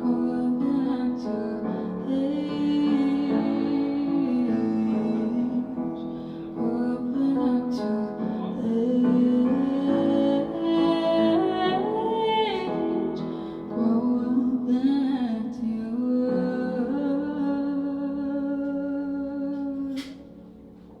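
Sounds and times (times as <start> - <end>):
woman singing: 0.0 - 20.3
piano accompaniment: 0.0 - 21.0.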